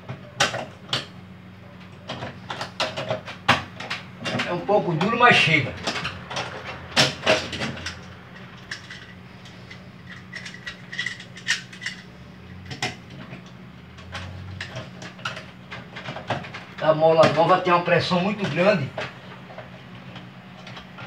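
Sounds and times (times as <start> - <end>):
plastic parts clicking and knocking: 0.0 - 1.1, 1.8 - 17.7, 18.3 - 21.0
low steady hum: 0.0 - 21.0.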